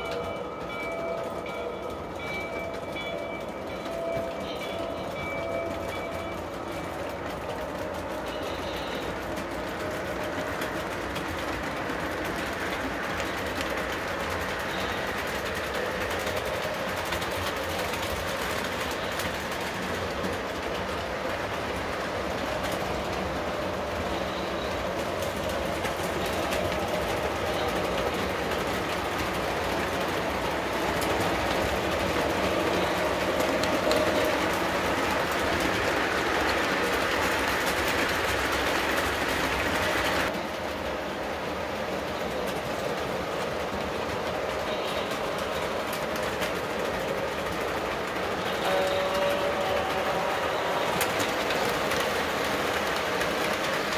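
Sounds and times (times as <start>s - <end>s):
model train wheels clattering: 0.0s - 53.9s.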